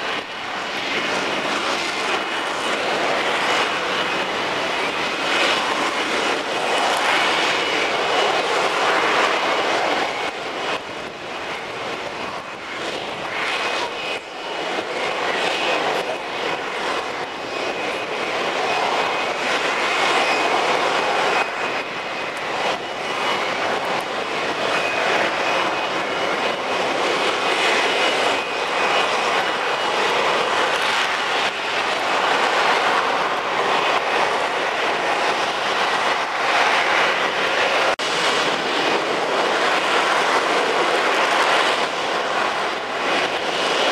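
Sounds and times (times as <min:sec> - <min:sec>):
jet engine roar: 0:00.0 - 0:43.9.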